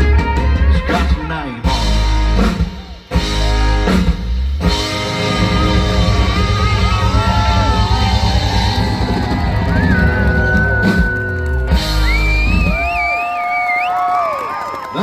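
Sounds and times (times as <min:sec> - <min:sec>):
electric guitar chords: 0:00.0 - 0:13.0
drum kit playing: 0:00.0 - 0:13.2.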